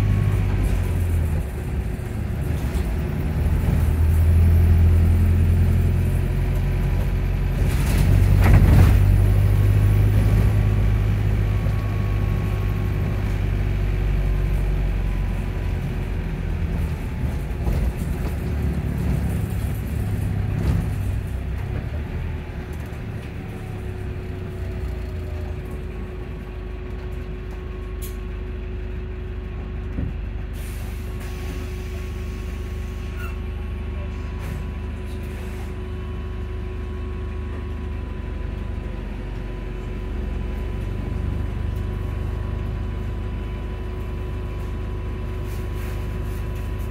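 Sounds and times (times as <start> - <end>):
bus engine rumbling: 0.0 - 46.9.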